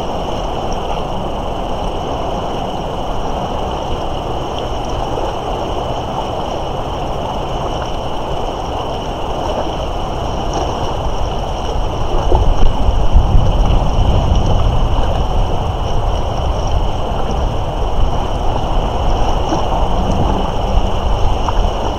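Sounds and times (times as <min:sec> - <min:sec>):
fast-flowing river rushing: 0:00.0 - 0:21.9.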